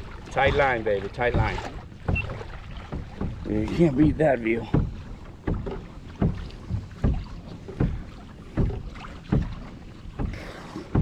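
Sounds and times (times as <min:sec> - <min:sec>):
paddle splashing in calm water: 0:00.0 - 0:11.0.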